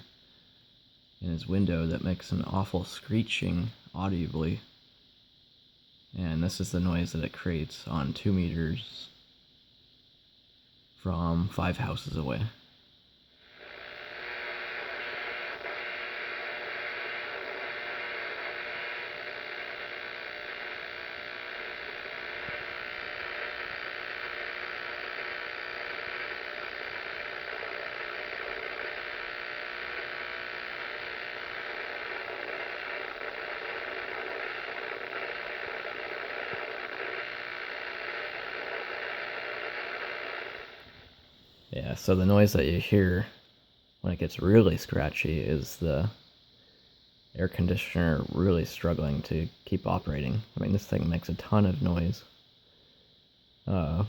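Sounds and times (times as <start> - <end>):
buzzy radio noise hiss: 0.0 - 54.0.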